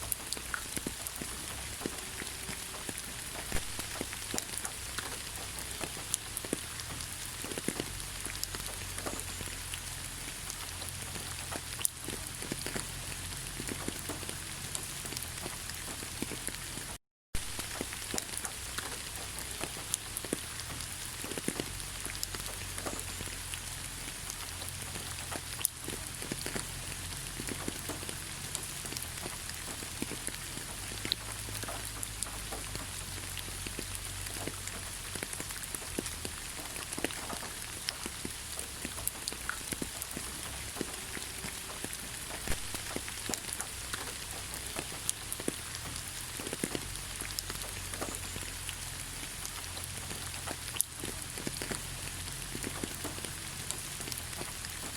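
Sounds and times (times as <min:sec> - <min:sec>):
rain falling in forest: 0:00.0 - 0:54.9
raindrop taps: 0:00.1 - 0:54.9.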